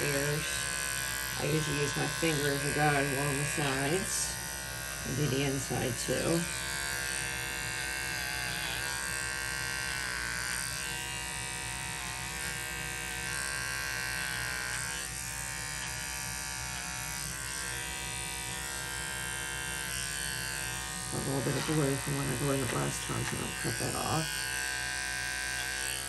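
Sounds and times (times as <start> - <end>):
electric clipper humming: 0.0 - 26.0.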